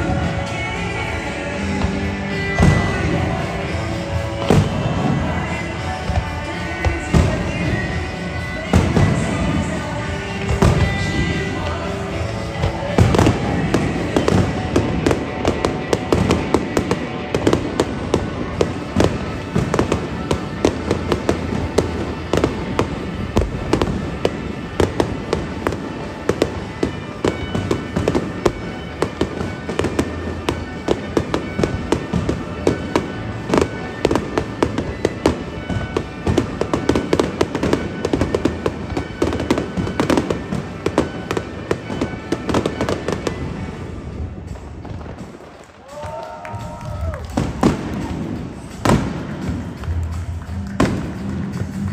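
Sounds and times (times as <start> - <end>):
fireworks popping and banging: 0.0 - 51.9.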